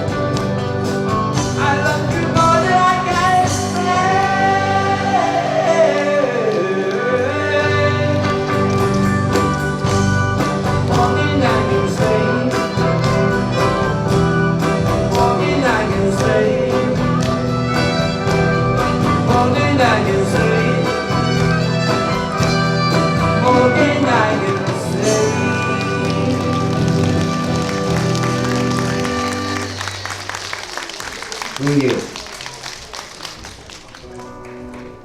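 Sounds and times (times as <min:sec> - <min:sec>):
live band playing pop song: 0:00.0 - 0:30.3.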